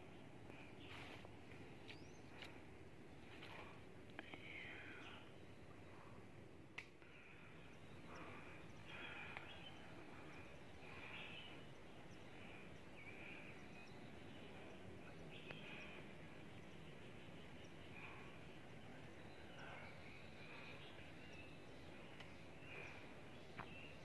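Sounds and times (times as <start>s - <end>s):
faint bird chirps: 0.0s - 24.0s
low background hiss: 0.0s - 24.0s.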